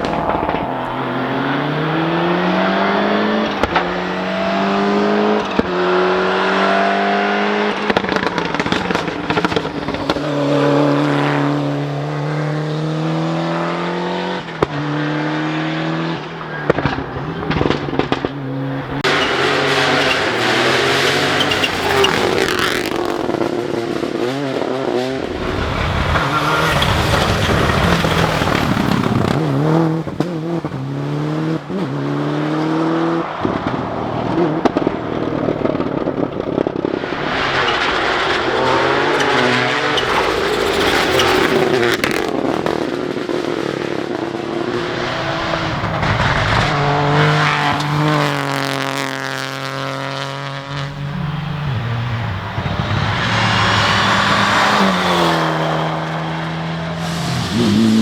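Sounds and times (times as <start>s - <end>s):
rally car engines revving hard: 0.0s - 58.0s.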